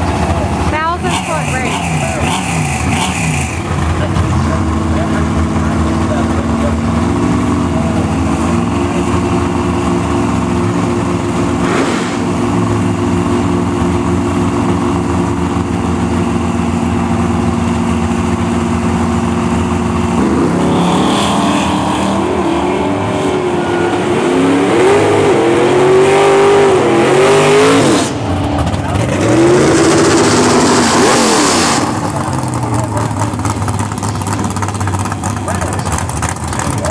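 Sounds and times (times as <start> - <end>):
race car engines: 0.0 - 36.9.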